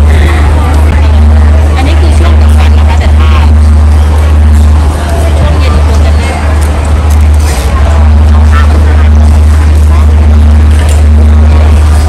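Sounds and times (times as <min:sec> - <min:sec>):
faint crowd chatter: 0:00.0 - 0:12.0
loud music with deep bass: 0:00.0 - 0:12.0.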